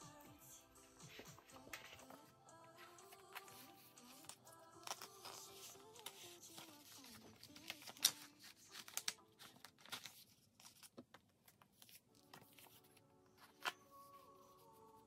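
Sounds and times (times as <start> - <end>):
paper and plastic crinkling: 1.2 - 14.6.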